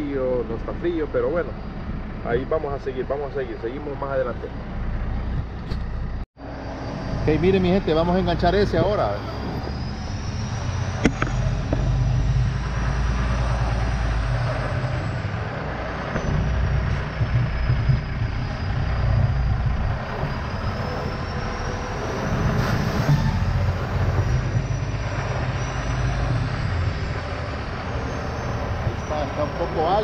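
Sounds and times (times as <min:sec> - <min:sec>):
diesel truck engine at low revs: 0:00.0 - 0:30.0.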